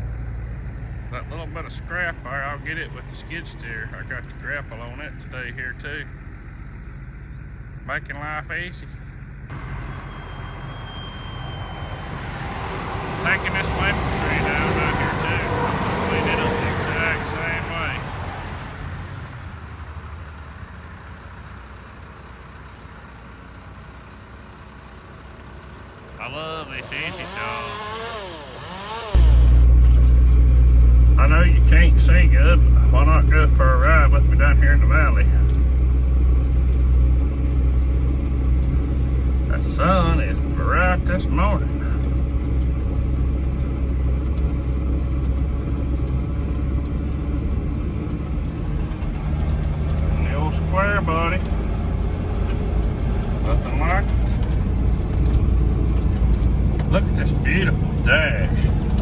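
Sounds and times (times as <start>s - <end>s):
heavy equipment engine rumbling: 0.0s - 59.0s
road noise: 0.0s - 59.0s.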